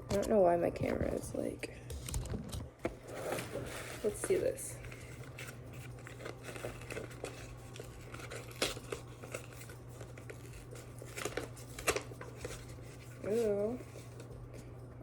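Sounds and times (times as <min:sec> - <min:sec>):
steady low hum: 0:00.0 - 0:15.0
paper crinkling and tearing: 0:02.0 - 0:14.7.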